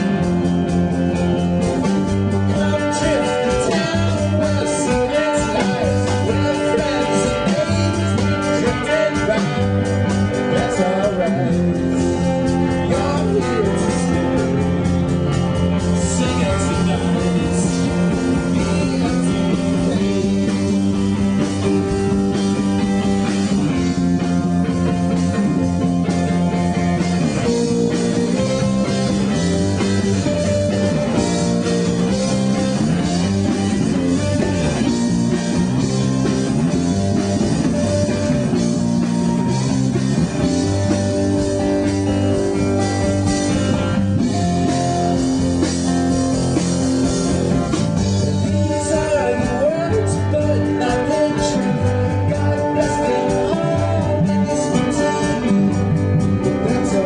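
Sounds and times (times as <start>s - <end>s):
drum kit: 0.0s - 57.0s
electric guitars ringing: 0.0s - 57.0s.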